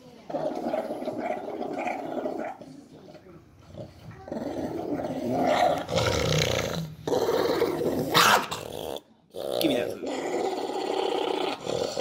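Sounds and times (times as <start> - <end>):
dog growling: 0.2 - 12.0.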